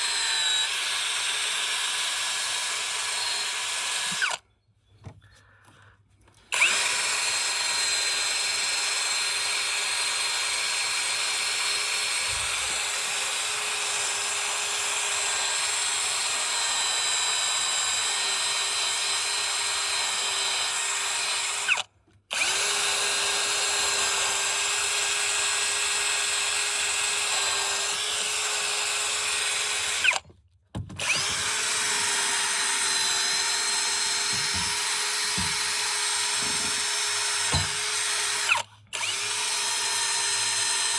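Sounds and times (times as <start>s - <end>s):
power tool motor whining: 0.0s - 4.4s, 6.5s - 30.2s, 31.0s - 40.9s.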